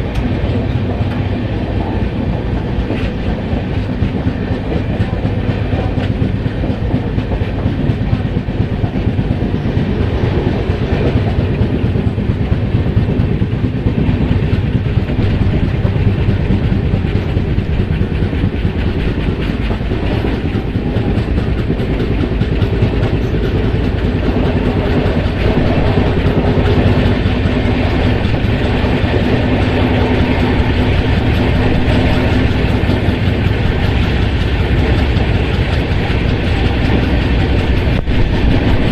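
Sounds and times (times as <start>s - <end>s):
train rumbling: 0.0s - 38.9s
wheels clattering over rails: 0.0s - 38.9s.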